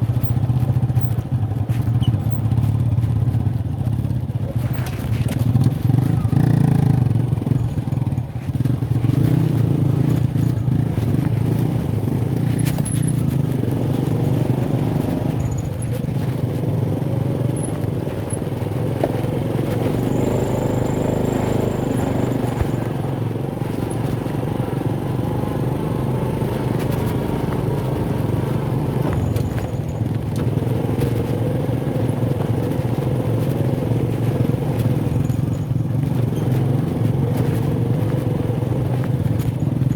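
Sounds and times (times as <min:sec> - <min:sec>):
rattles and clicks from bumpy ground: 0:00.0 - 0:39.9
small motorcycle engine running: 0:00.0 - 0:39.9.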